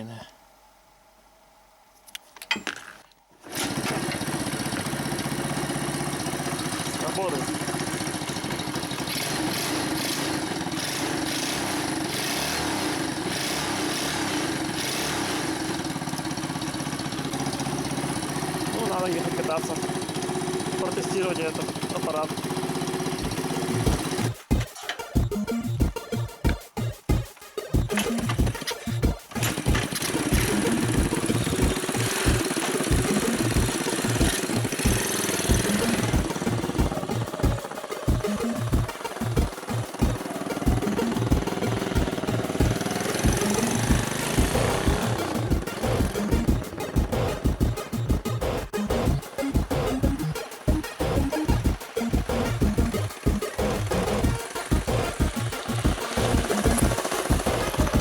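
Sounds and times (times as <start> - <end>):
motorbike engine running: 3.5 - 58.0.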